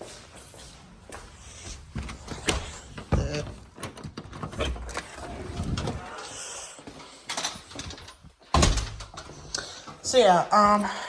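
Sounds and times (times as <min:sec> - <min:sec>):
footfalls and shuffling: 0:00.0 - 0:11.0.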